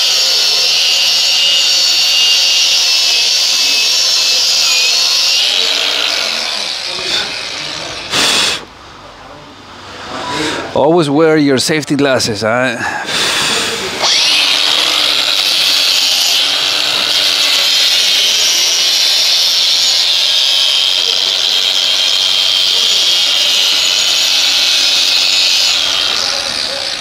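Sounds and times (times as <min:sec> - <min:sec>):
grinder grinding metal: 0:00.0 - 0:08.7, 0:13.8 - 0:27.0.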